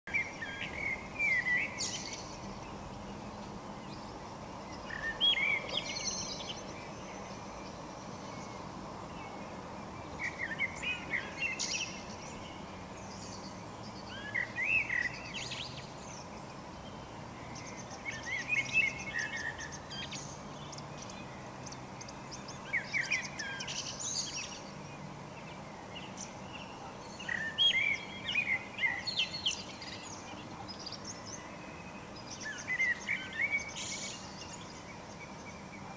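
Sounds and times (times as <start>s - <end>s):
songbird warbling: 0.1s - 2.8s, 3.8s - 8.6s, 10.1s - 24.8s, 25.4s - 35.9s.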